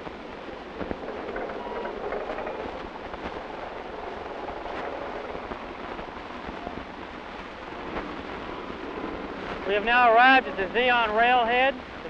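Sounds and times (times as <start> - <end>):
wheels knocking: 0.0 - 11.2
freight train rumbling on track: 0.0 - 12.0.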